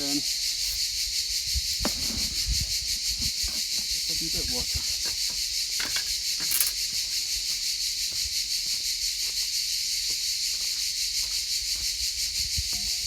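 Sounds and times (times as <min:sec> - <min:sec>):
insects chirping chorus: 0:00.0 - 0:13.0.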